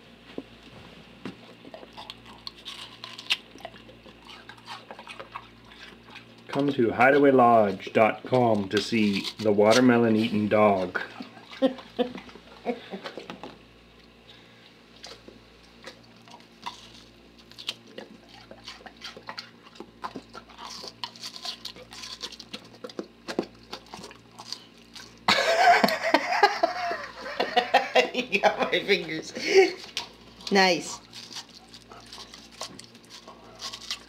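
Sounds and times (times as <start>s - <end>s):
dog chewing watermelon: 1.2s - 14.2s, 14.8s - 25.3s, 28.8s - 34.0s.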